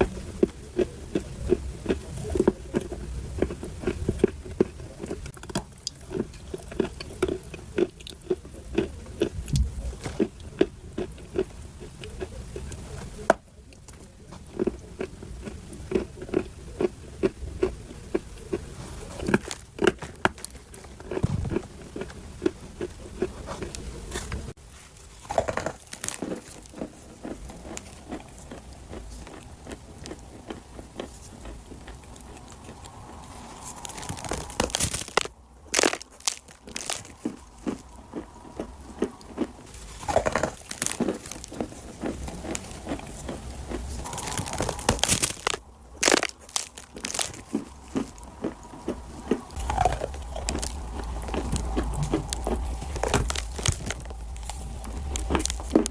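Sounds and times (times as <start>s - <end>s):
chewing dry clay crunches: 0.0s - 55.9s.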